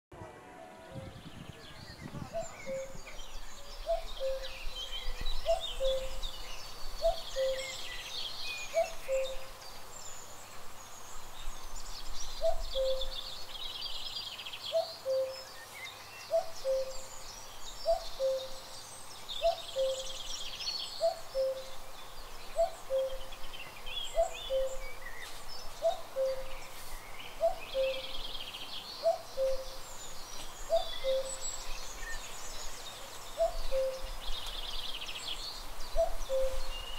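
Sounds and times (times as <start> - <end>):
small birds chirping and trilling: 0.7 - 36.9.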